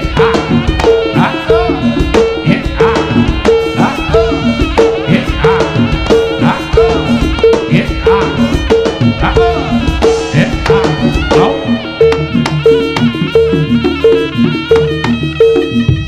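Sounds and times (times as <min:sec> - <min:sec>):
ringing metallophone tones: 0:00.0 - 0:16.0.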